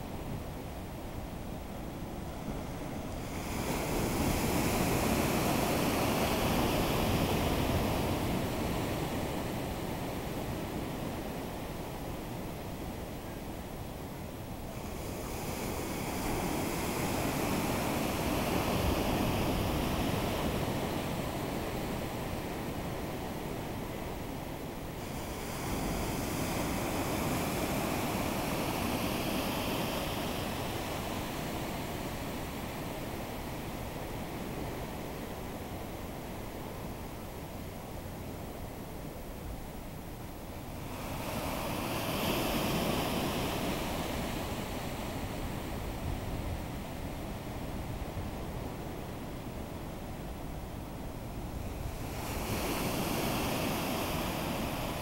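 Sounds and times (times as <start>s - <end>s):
ocean surf washing over sand: 0.0s - 55.0s.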